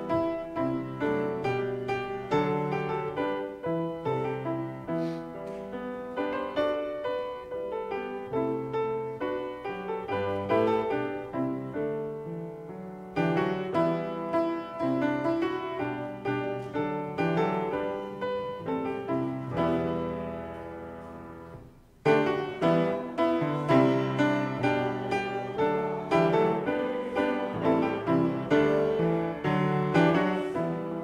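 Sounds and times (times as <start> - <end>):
piano playing hymn chords: 0.0 - 31.0.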